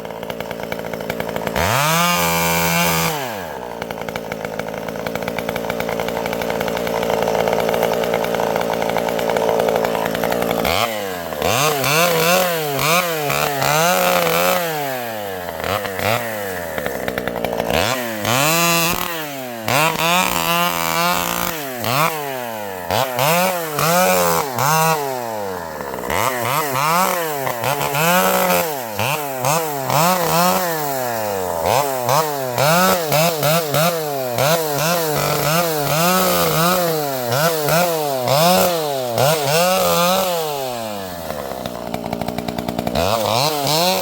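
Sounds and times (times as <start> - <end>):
chainsaw engine revving: 0.0 - 44.0.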